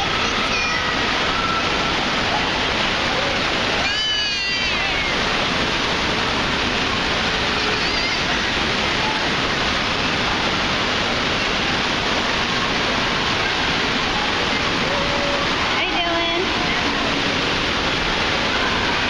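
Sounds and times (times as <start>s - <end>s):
falling water rushing: 0.0s - 19.0s.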